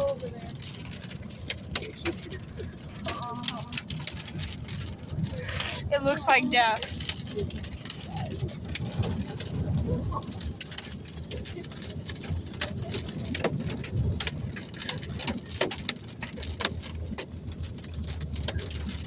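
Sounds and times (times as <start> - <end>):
engine and road noise: 0.0 - 19.0
raindrops ticking on car: 0.0 - 19.0.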